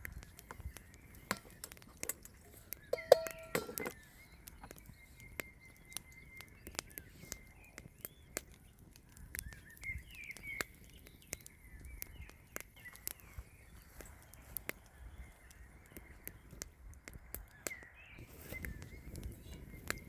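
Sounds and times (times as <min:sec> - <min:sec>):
light clicks and ticks: 0:00.0 - 0:13.3, 0:13.9 - 0:17.8
small birds chirping: 0:00.0 - 0:20.0.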